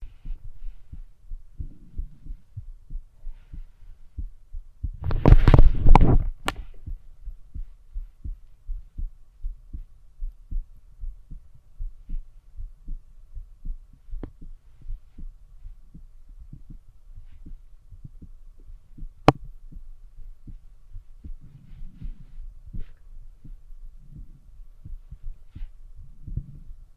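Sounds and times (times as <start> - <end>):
heartbeat thumps: 0.0 - 26.9.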